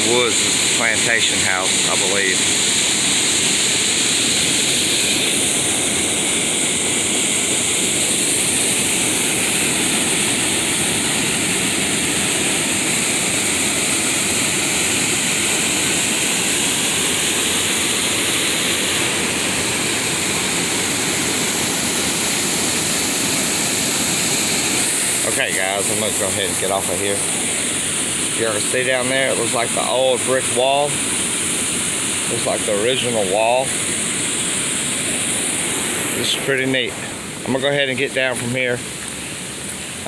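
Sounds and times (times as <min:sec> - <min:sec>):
waterfall roar: 0:00.0 - 0:40.0.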